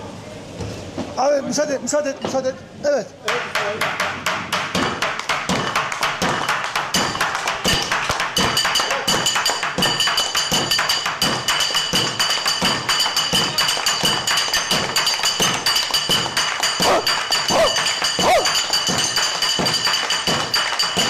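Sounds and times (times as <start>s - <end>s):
fast percussion taps: 3.3s - 21.0s.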